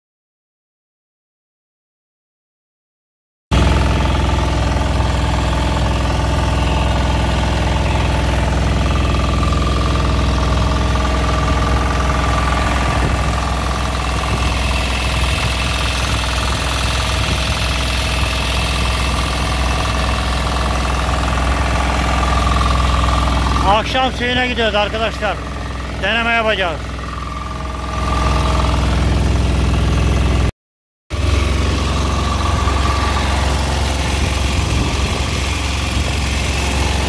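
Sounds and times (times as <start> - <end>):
boat engine running: 3.5 - 30.5, 31.1 - 37.0.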